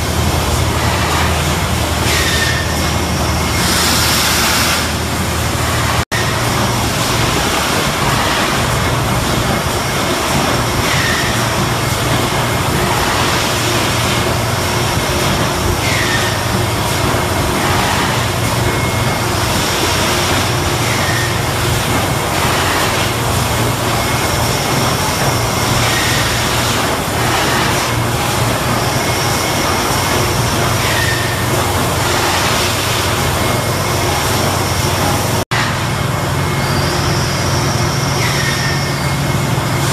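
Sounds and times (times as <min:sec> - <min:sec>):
machinery hum and hiss: 0:00.0 - 0:39.9.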